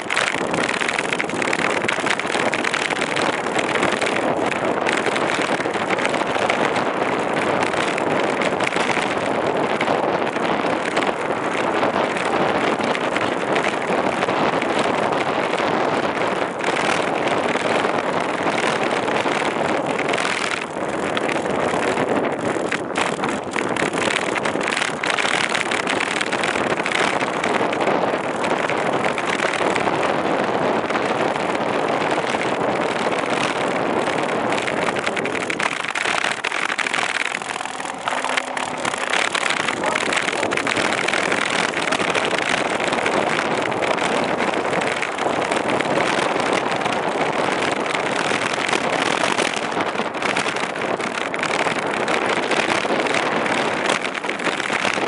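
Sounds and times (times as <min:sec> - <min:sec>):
bicycle tyre and road noise: 0:00.0 - 0:55.0
wind rush on microphone: 0:00.0 - 0:55.0.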